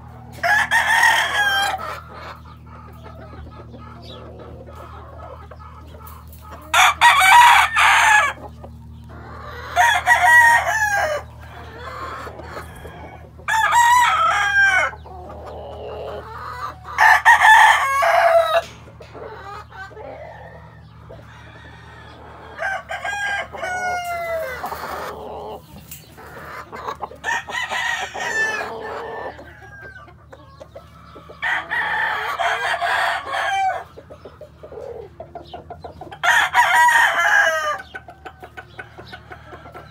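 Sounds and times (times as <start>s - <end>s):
steady low hum: 0.0s - 32.3s
roosters crowing: 0.0s - 39.9s.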